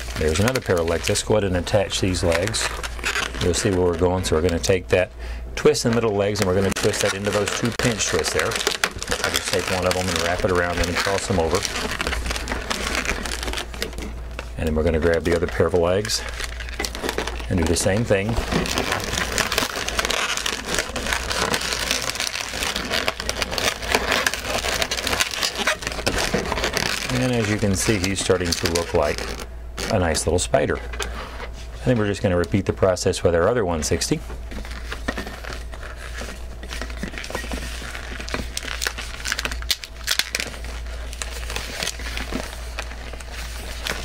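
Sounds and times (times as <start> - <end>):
balloons squeaking and creaking: 0.0 - 44.0
steady low hum: 0.0 - 44.0.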